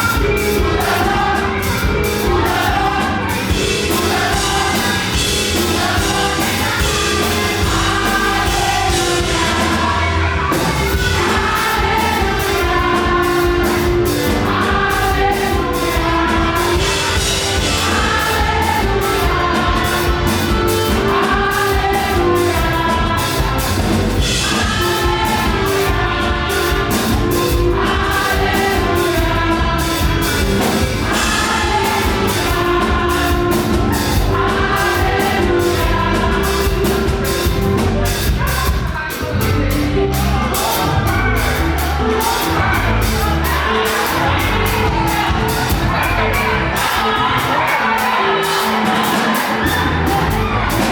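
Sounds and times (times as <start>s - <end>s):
band with driving drum beat: 0.0s - 50.9s
group singing gospel phrases: 0.0s - 50.9s.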